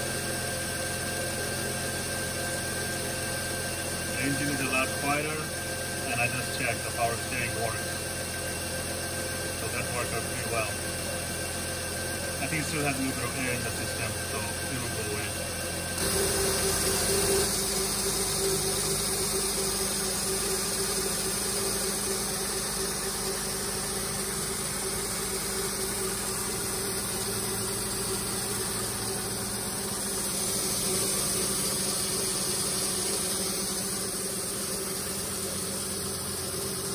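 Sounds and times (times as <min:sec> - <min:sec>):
car engine idling: 0:03.0 - 0:36.9.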